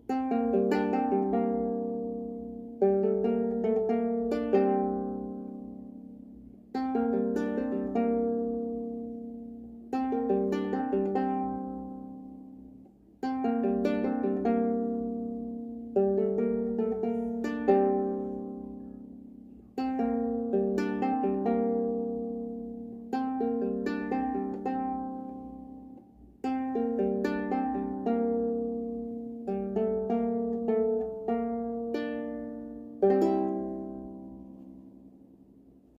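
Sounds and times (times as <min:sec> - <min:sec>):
lyre plucked strings: 0:00.0 - 0:35.5.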